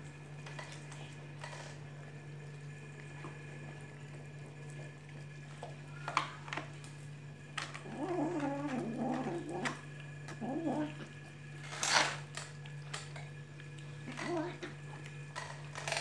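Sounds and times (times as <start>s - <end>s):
kittens chewing and smacking: 0.0s - 16.0s.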